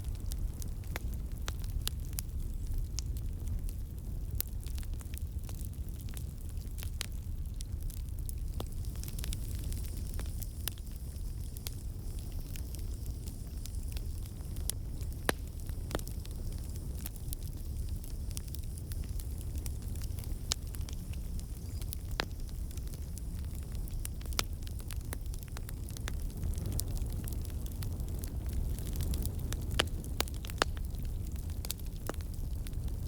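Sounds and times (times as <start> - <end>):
burning wood crackling: 0.0 - 33.0
flames rushing: 0.1 - 33.0.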